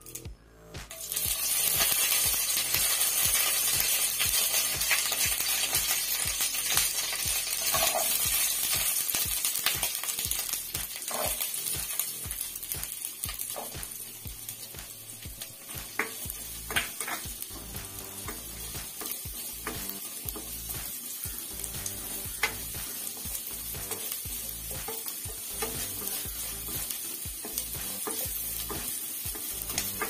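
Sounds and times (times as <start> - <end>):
chilli sizzling in hot oil: 0.8 - 30.0.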